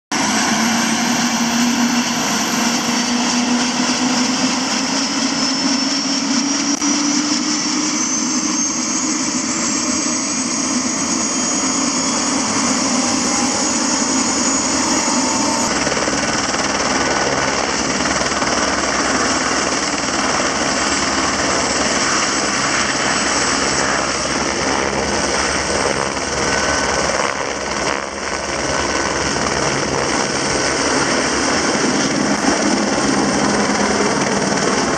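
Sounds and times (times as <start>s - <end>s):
helicopter turbine whine: 0.1s - 34.9s.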